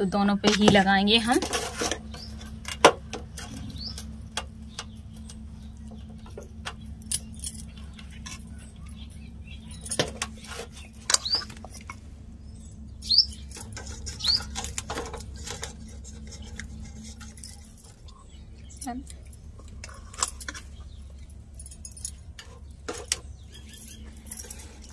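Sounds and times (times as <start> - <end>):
bird chirping: 2.0 - 2.6, 3.2 - 24.9.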